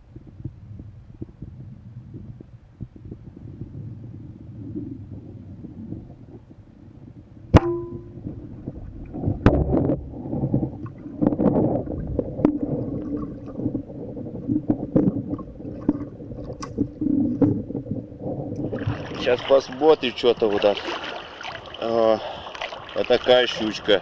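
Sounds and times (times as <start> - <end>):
underwater gurgling and rushing water: 0.0 - 24.0.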